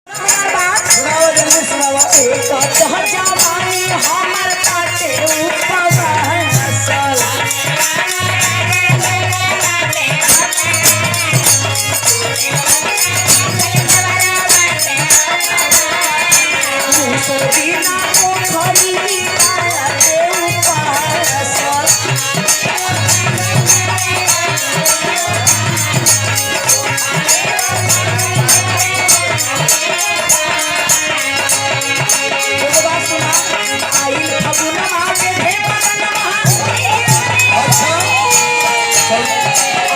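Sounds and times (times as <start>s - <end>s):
fast rattling percussion: 0.1s - 39.9s
folk music played live: 0.1s - 39.9s.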